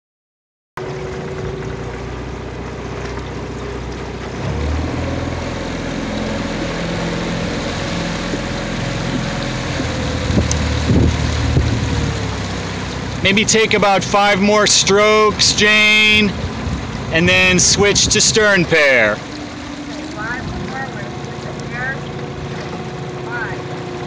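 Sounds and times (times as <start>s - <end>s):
boat bumps: 0.8s - 24.0s
outboard motor running: 0.8s - 24.0s
wind and water hiss: 1.1s - 24.0s.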